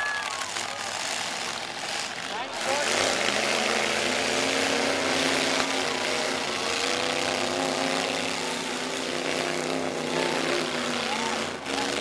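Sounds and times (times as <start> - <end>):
truck engines roaring: 0.0 - 12.0.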